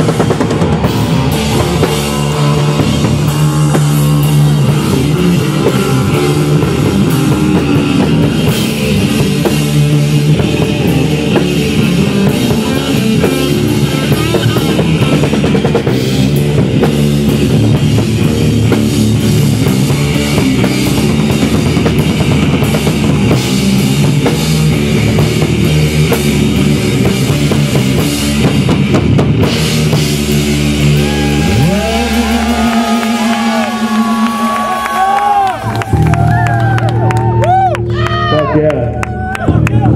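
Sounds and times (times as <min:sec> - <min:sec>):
drum kit beat: 0:00.0 - 0:38.3
bass guitar: 0:00.0 - 0:39.9
electric guitar: 0:00.0 - 0:39.9.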